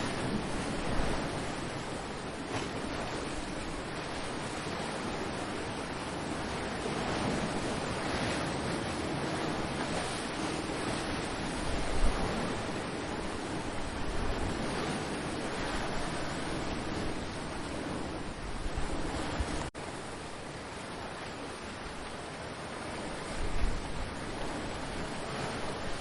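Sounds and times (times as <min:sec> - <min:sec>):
ocean surf washing ashore: 0:00.0 - 0:26.0
wind buffeting microphone: 0:00.0 - 0:26.0.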